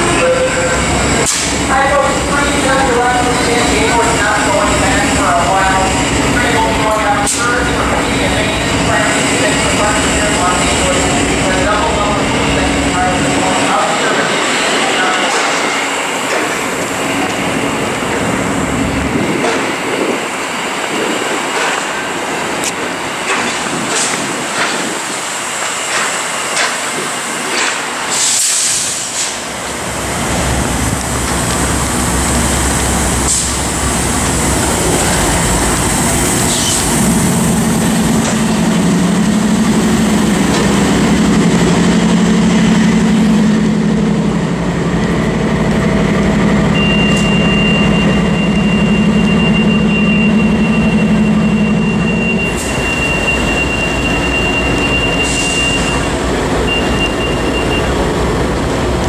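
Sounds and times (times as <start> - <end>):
diesel locomotive droning: 0.0 - 59.0.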